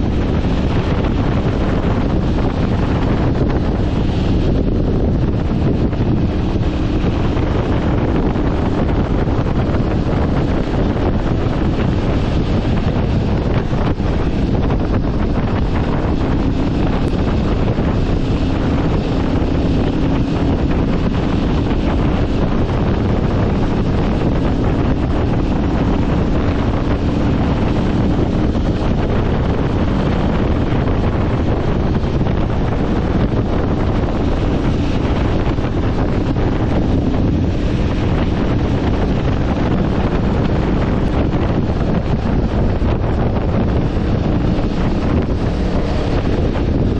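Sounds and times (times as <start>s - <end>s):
motorcycle engine droning: 0.0s - 46.9s
wind buffeting microphone: 0.0s - 46.9s.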